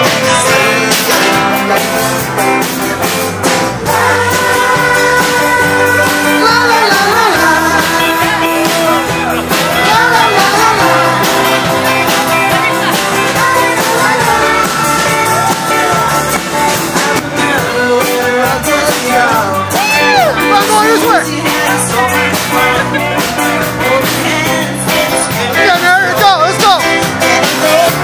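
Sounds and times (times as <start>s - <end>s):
person singing: 0.0s - 3.2s, 3.8s - 28.0s
drums: 0.0s - 28.0s
guitar: 0.0s - 28.0s.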